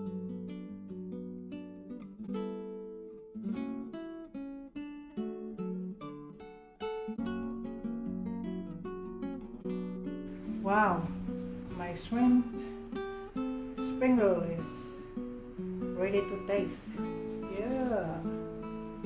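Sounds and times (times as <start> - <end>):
plucked acoustic guitar tune: 0.0 - 19.0.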